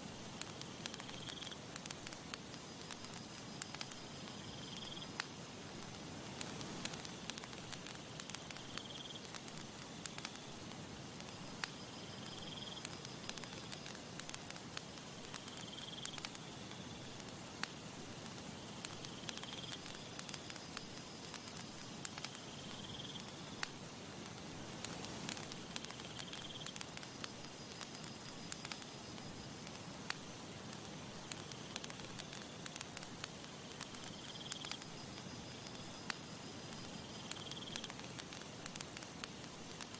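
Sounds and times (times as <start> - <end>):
campfire crackling and popping: 0.0 - 39.9
soft steady hiss: 0.0 - 39.9.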